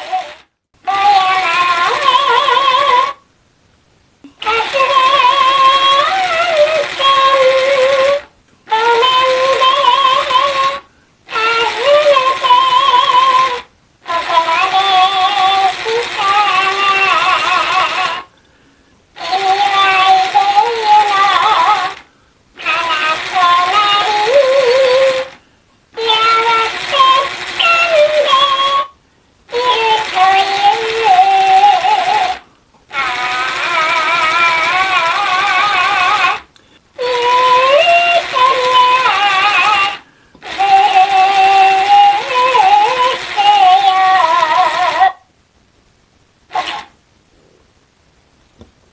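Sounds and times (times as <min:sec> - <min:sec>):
toy singing in high voice: 0:00.0 - 0:03.2, 0:04.4 - 0:18.3, 0:19.2 - 0:22.0, 0:22.6 - 0:25.4, 0:26.0 - 0:45.2, 0:46.5 - 0:47.0.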